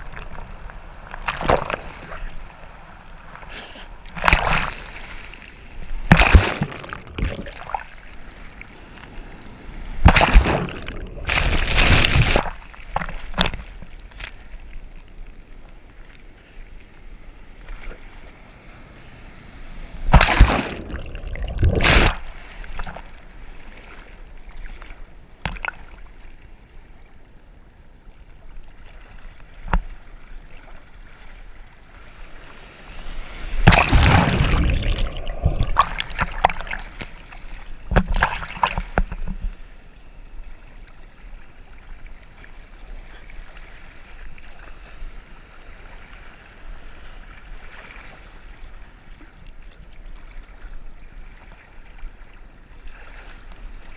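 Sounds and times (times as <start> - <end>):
sea water sloshing and splashing: 0.0 - 15.4, 19.9 - 26.5, 28.6 - 39.8, 40.4 - 53.9
muffled underwater wash: 0.0 - 47.6.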